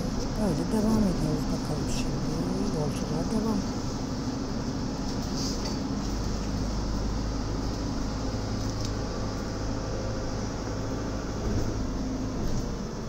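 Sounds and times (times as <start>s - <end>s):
bus engine droning: 0.0s - 13.0s
road noise: 0.0s - 13.0s.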